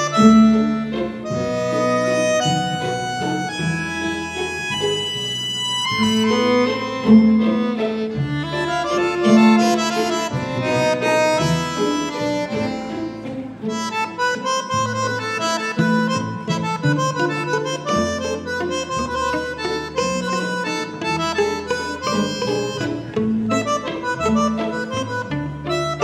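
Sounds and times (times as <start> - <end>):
tango music with bandoneon: 0.0 - 26.0.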